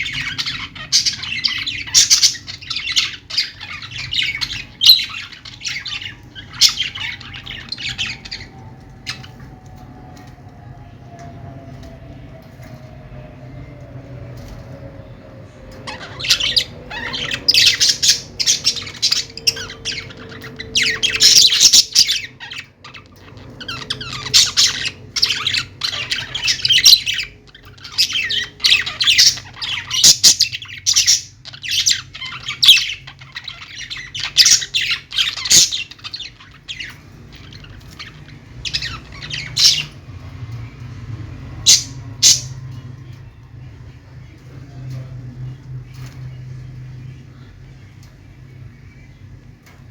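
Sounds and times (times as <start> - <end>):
parrots chirping and squawking: 0.0 - 11.0, 14.2 - 49.9.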